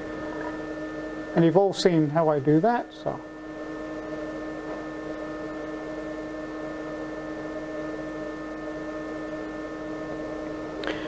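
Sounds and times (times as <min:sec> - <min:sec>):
router machine humming: 0:00.0 - 0:11.0.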